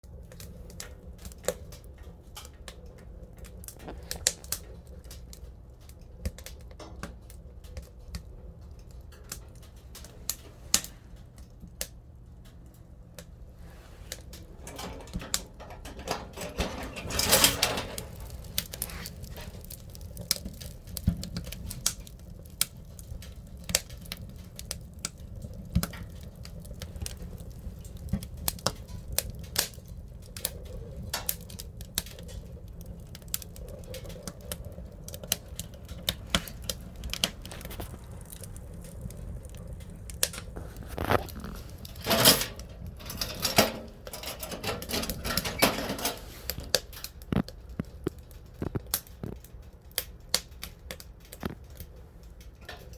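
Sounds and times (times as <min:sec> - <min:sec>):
firewood crackling and popping: 0:00.0 - 0:52.9
low rumble of fire: 0:00.0 - 0:52.9.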